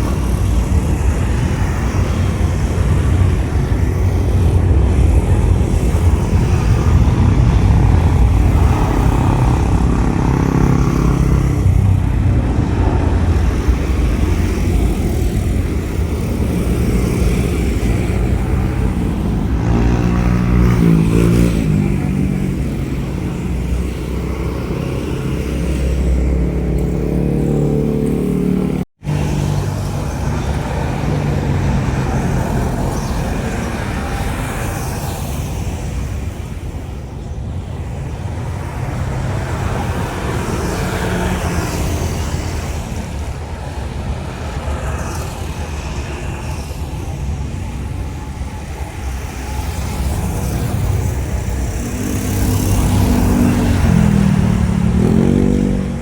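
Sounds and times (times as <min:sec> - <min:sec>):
aircraft rumble: 0:00.0 - 0:56.0
jet engines rumbling on takeoff: 0:00.0 - 0:56.0.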